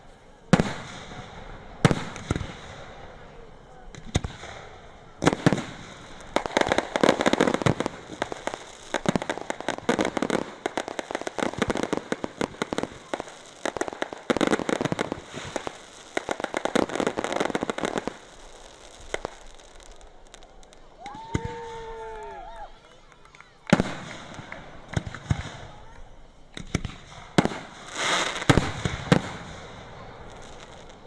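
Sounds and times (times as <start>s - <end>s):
rapid crackling firework pops: 0.0s - 3.2s, 3.8s - 31.0s.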